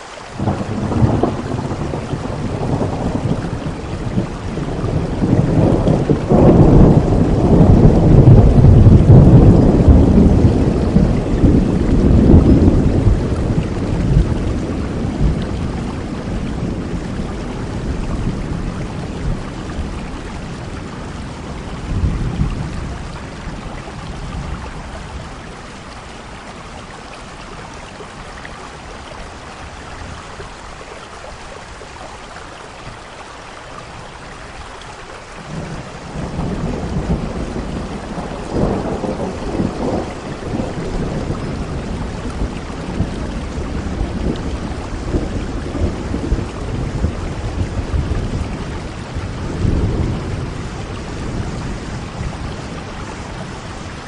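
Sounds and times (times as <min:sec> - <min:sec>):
steady rain: 0:00.0 - 0:54.0
rolling thunder: 0:00.4 - 0:25.8, 0:35.4 - 0:54.0.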